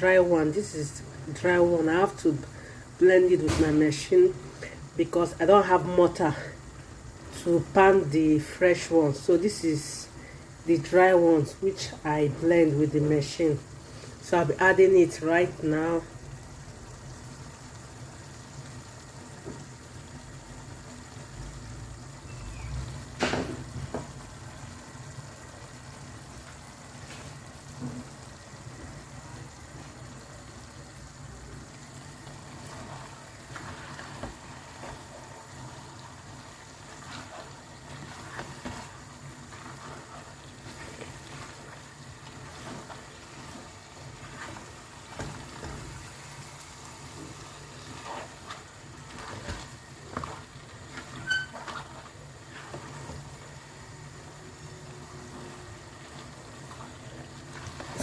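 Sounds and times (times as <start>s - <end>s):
soup simmering: 6.2s - 7.8s, 11.9s - 58.0s.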